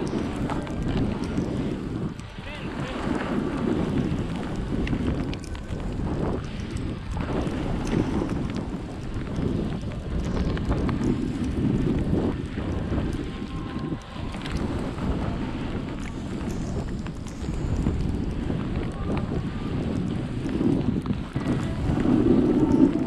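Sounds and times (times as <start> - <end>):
sliding over snow hiss: 0.0 - 23.0
wind buffeting microphone: 0.0 - 23.0.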